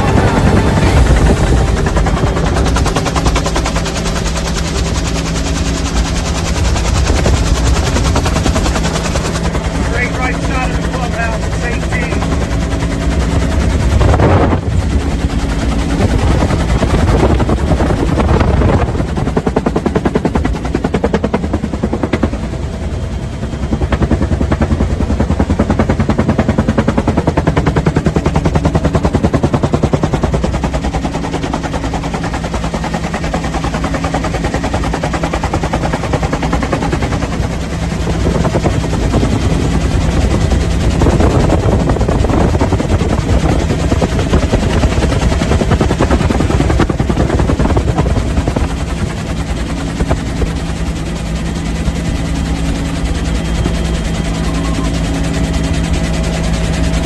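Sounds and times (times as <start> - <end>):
helicopter engine drone: 0.0 - 57.0
helicopter rotor blade slap: 0.0 - 57.0.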